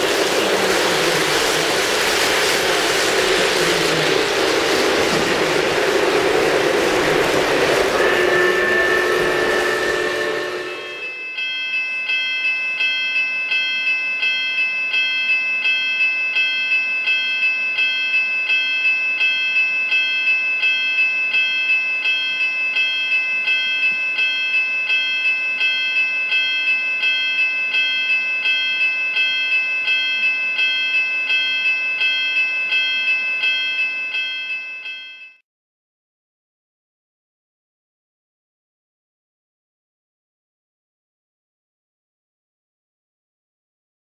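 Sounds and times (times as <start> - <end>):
railroad crossing bell ringing: 0.0 - 35.4.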